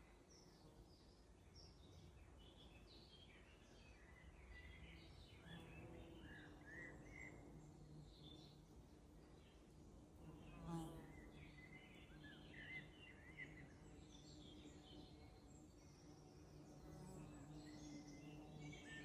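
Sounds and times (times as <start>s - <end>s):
faint songbird chirps: 0.0s - 19.0s.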